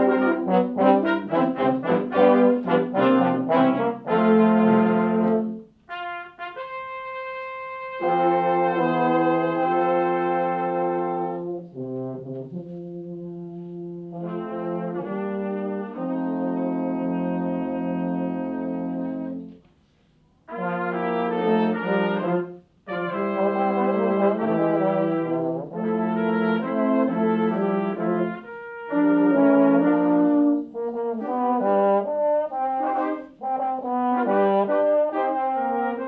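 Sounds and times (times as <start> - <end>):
brass ensemble playing chords: 0.0 - 19.6, 20.4 - 36.0.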